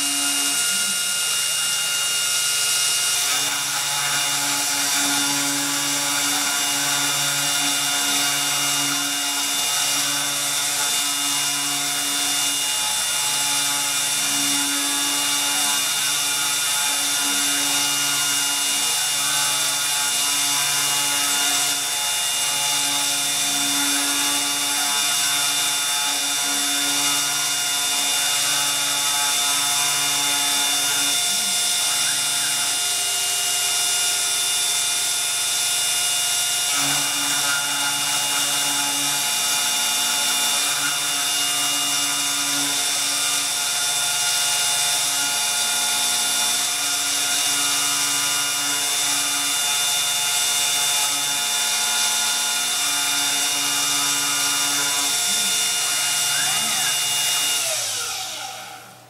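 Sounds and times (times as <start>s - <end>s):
spindle motor whine: 0.0s - 59.0s.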